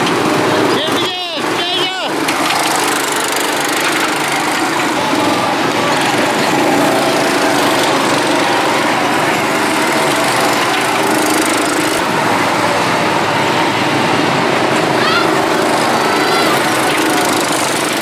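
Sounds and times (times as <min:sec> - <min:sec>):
go-kart engines buzzing: 0:00.0 - 0:18.0.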